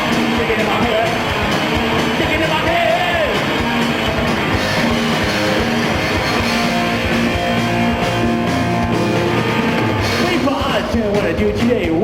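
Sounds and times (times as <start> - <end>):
drums hitting: 0.0 - 12.0
electric guitar: 0.0 - 12.0.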